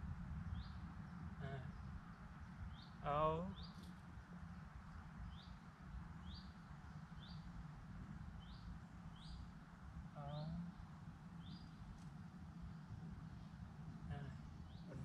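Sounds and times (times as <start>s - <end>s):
songbird chirping: 0.0s - 15.0s
wind rumble on microphone: 0.0s - 15.0s.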